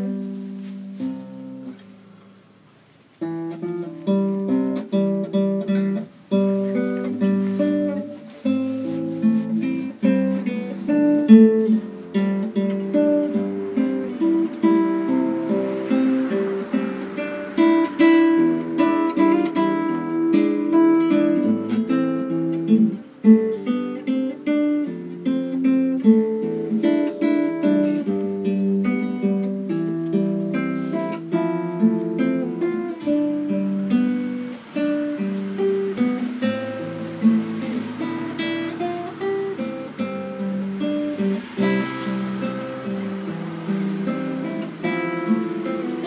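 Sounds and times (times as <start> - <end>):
classical guitar fingerstyle: 0.0 - 46.0.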